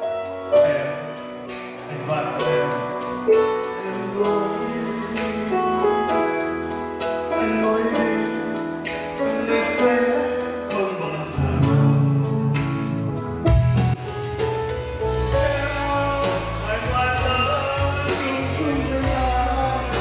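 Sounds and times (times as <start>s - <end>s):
backing track with drum beat: 0.0s - 20.0s
man singing into microphone: 0.6s - 12.6s, 15.3s - 20.0s.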